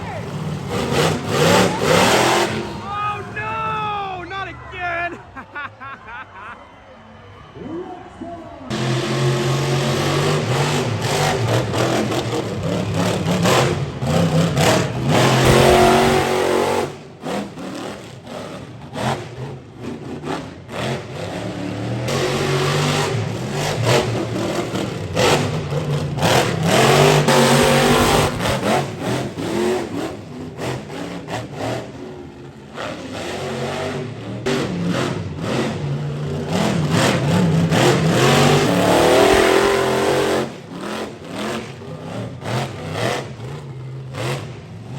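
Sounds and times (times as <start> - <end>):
monster truck engine revving: 0.0 - 2.9, 8.7 - 44.9.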